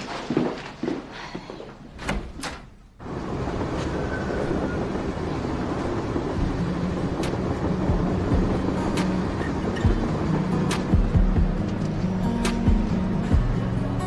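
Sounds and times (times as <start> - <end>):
low rumbling traffic noise: 0.0 - 14.0.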